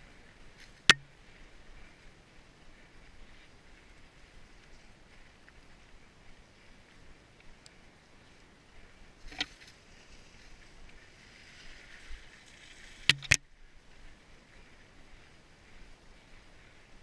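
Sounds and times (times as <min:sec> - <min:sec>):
bike tyres hissing on trail: 0:00.0 - 0:17.0.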